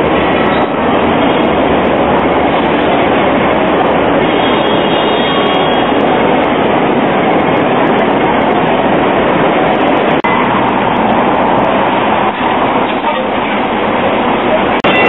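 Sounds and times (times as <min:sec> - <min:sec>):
tram running heard from aboard: 0:00.0 - 0:15.0
tram wheels rumbling on rail: 0:00.0 - 0:15.0.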